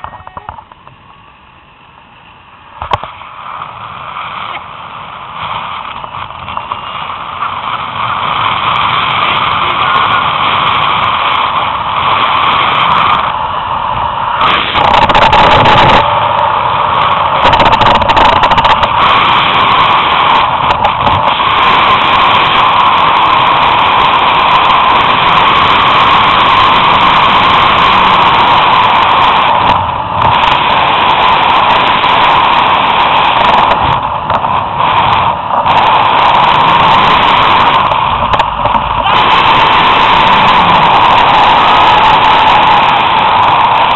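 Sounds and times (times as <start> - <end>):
zip-line pulleys whining on cable: 0.0 - 43.9
wind buffeting microphone: 2.7 - 43.9.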